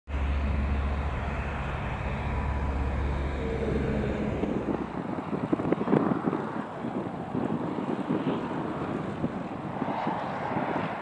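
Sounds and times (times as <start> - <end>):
propeller plane engine droning: 0.1 - 11.0
wind buffeting microphone: 0.2 - 11.0.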